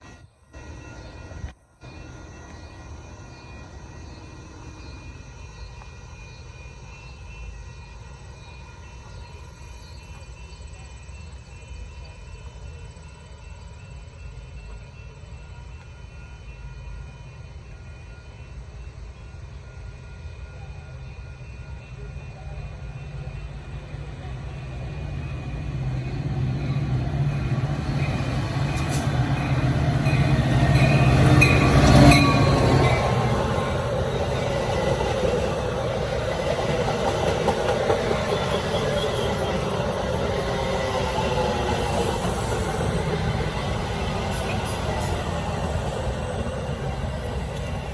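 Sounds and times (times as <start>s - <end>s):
diesel train rumbling: 0.0s - 47.9s.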